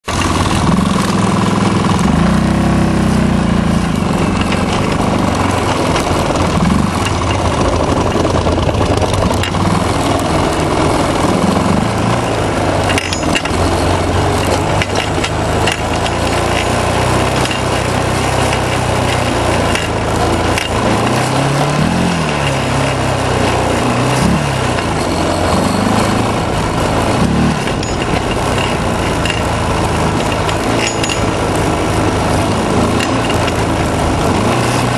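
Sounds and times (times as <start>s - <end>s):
atv engines revving: 0.0s - 34.9s.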